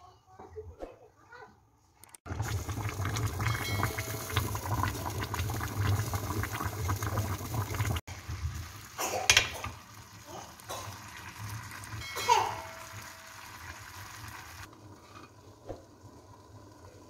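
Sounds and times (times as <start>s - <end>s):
rice boiling hard: 2.3s - 17.0s.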